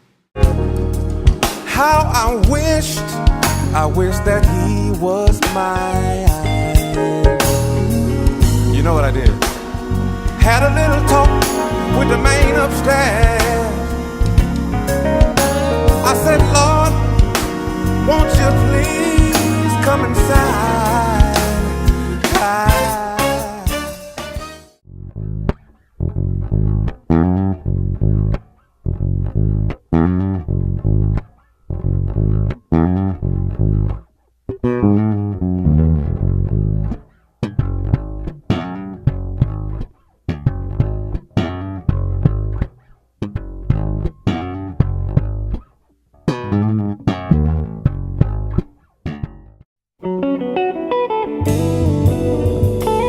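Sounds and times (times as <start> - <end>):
electric bass plucked low notes: 0.4 - 53.0.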